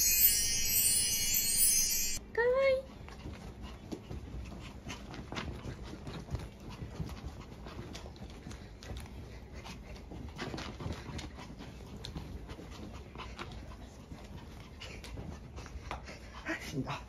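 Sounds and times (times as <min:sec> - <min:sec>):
small dog panting: 0:02.7 - 0:17.0.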